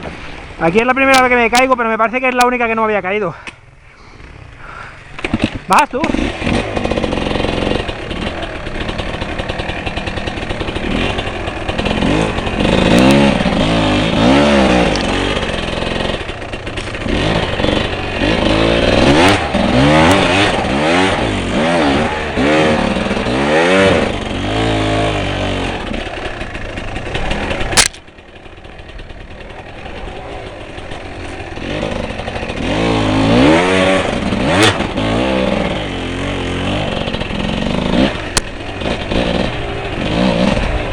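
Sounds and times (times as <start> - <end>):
motorcycle engine revving: 4.2 - 40.9.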